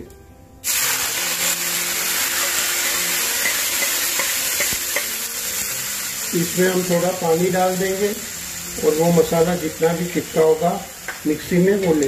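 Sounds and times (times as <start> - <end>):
paste sizzling in hot oil: 0.6 - 11.8.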